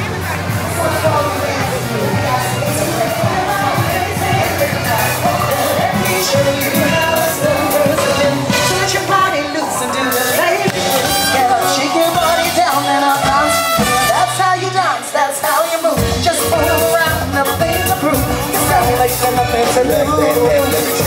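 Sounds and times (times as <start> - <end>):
music with singing: 0.0 - 21.0.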